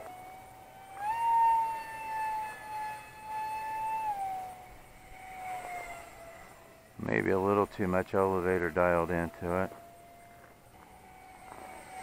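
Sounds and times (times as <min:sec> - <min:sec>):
electric ducted fan whining: 0:00.0 - 0:12.0.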